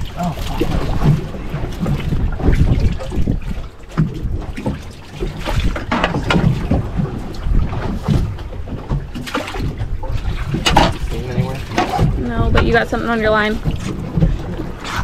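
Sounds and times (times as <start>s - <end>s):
water splashing and sloshing: 0.0s - 15.0s
wind buffeting microphone: 0.0s - 15.0s.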